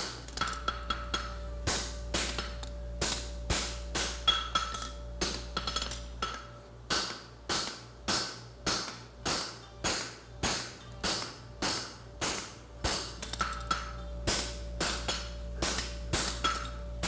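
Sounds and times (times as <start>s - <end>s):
hammer striking steel on anvil: 0.0s - 17.0s.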